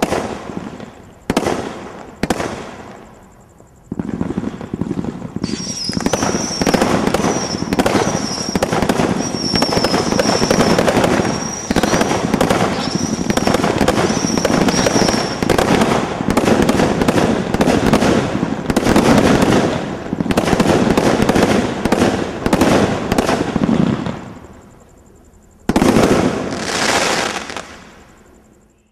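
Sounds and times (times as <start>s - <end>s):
firework volleys and crackling stars: 0.0s - 24.9s, 25.6s - 28.4s.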